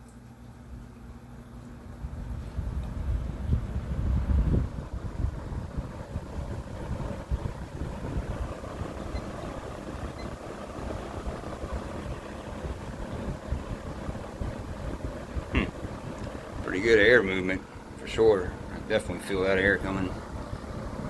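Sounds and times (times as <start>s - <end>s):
box fan running: 0.0s - 21.0s
wind buffeting microphone: 1.8s - 21.0s.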